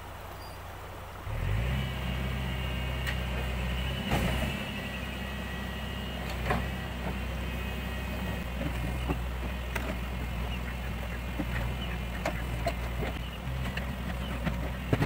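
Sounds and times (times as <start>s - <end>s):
diesel engine revving: 1.2s - 15.0s.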